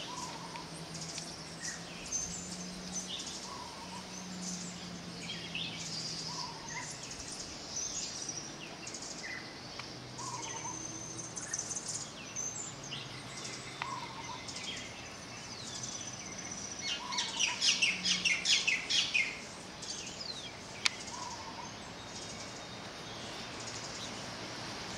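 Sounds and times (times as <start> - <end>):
small birds chirping: 0.0 - 24.9
wind and surf hiss: 0.0 - 24.9.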